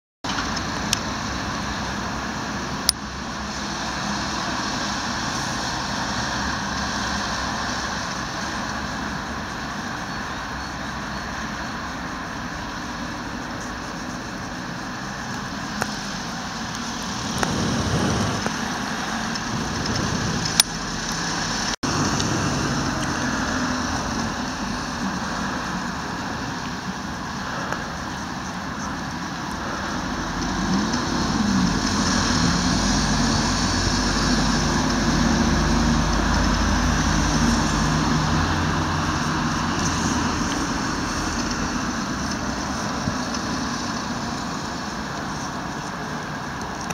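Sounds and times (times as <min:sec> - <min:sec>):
road traffic noise: 0:00.2 - 0:46.9.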